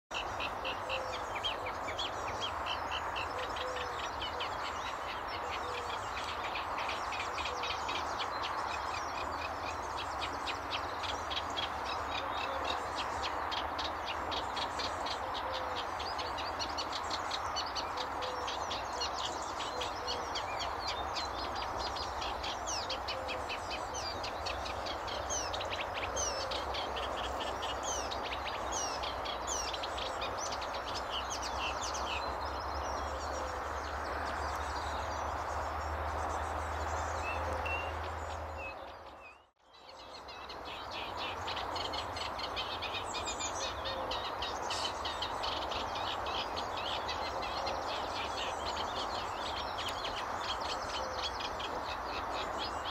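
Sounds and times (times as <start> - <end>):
warbler singing: 0.1 - 52.9.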